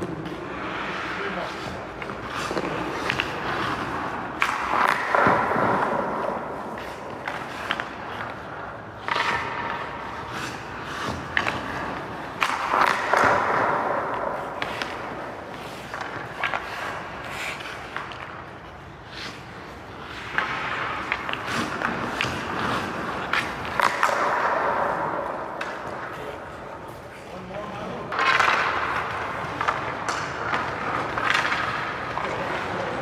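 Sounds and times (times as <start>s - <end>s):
skates scraping on ice: 0.0s - 33.0s
stick and puck clacks: 0.0s - 33.0s.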